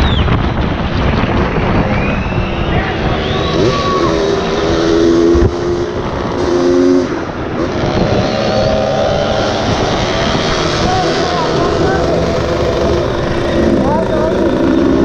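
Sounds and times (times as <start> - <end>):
other motorcycle engines: 0.0 - 15.0
dirt bike engine revving: 1.6 - 15.0.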